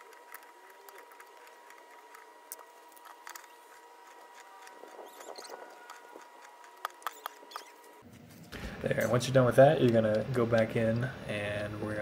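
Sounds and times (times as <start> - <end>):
faint clicks and scratching: 0.0 - 11.1.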